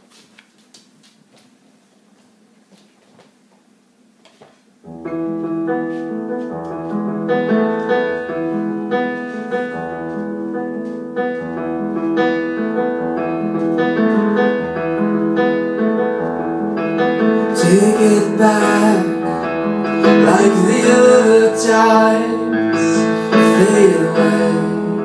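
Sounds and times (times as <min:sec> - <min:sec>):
piano playing chords: 0:04.8 - 0:25.0.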